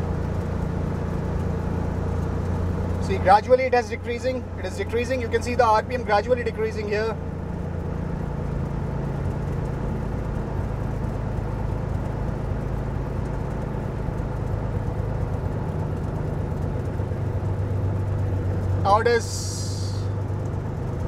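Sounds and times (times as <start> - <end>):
propeller plane engine running: 0.0 - 21.0.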